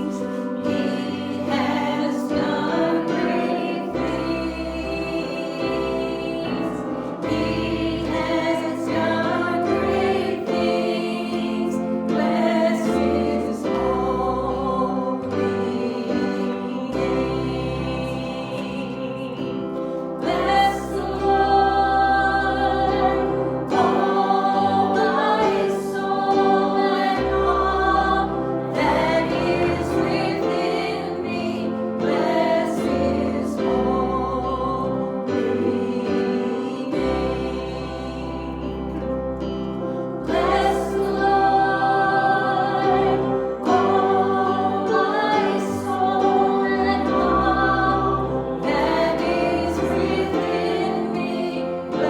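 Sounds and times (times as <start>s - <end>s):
congregation singing a hymn: 0.0s - 52.0s.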